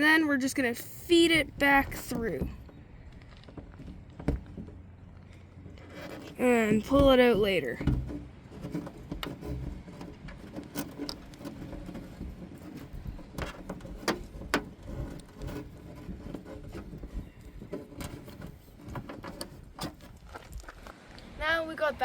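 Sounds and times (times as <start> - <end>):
small parts and tools rattling: 2.3 - 20.5.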